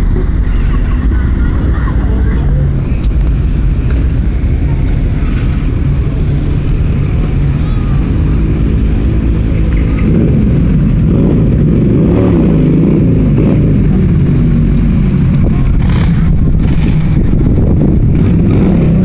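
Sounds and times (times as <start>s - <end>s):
car engines running: 0.0s - 19.0s
engine revving: 2.2s - 19.0s.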